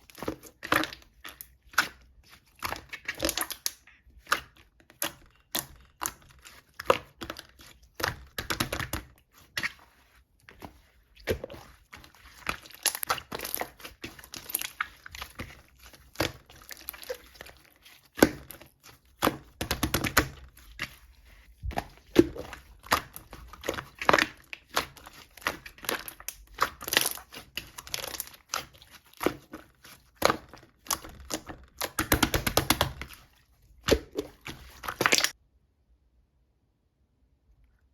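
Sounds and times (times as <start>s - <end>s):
slime crackling and popping: 0.0s - 9.8s, 10.5s - 35.4s.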